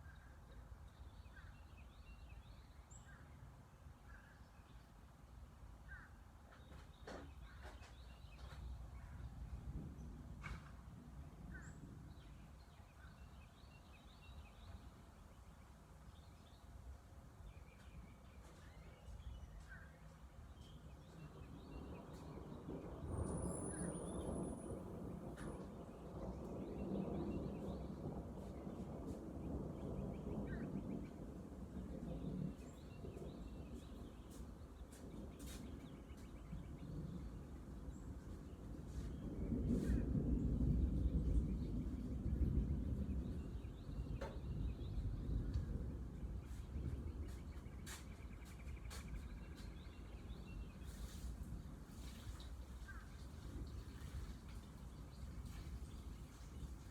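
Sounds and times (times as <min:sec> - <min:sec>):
faint birds chirping: 0:00.0 - 0:56.9.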